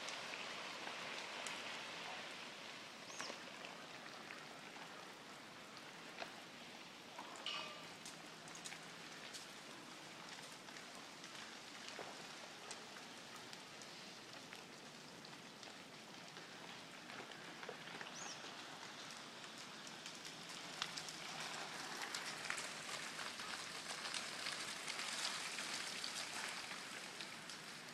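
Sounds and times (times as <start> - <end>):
melting snow dripping from trees: 0.0 - 27.9.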